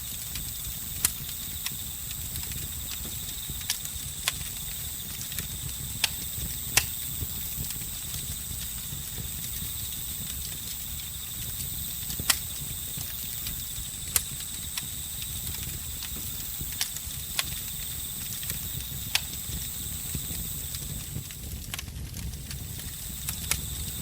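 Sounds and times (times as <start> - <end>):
crickets chirping: 0.0 - 21.7, 22.4 - 24.0
campfire crackling: 0.0 - 24.0
fire pops: 0.0 - 24.0.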